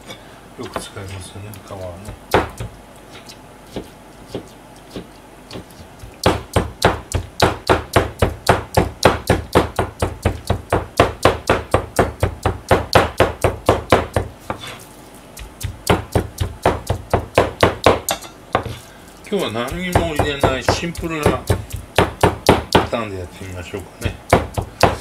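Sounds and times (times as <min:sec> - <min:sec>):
knife chopping on cutting board: 0:02.0 - 0:14.8, 0:15.4 - 0:18.8, 0:19.6 - 0:23.0, 0:24.0 - 0:25.0.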